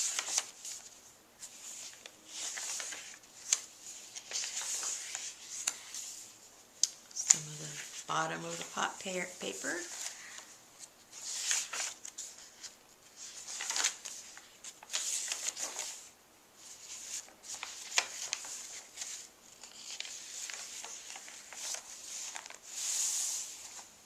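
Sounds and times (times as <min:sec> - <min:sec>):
paper rustling and crinkling: 0:00.0 - 0:06.4, 0:07.1 - 0:24.0.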